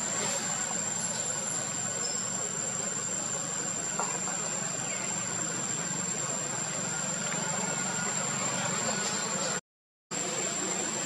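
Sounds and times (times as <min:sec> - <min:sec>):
constant high-pitched tone: 0:00.0 - 0:11.0.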